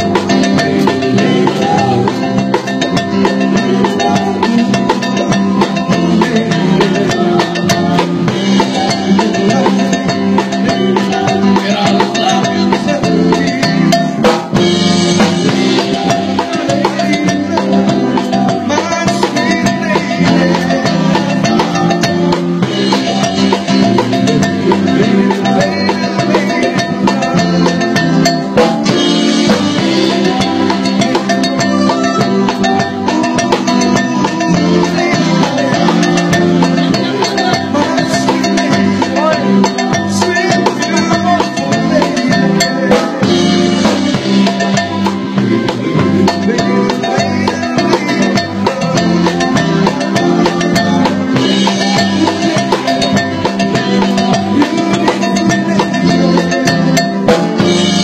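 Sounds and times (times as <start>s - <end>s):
drum kit playing: 0.0s - 58.0s
live band music: 0.0s - 58.0s.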